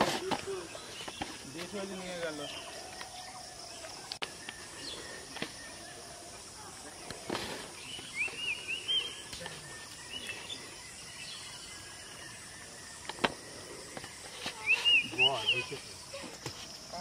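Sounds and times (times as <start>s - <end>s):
bird chirping: 0.2s - 16.4s.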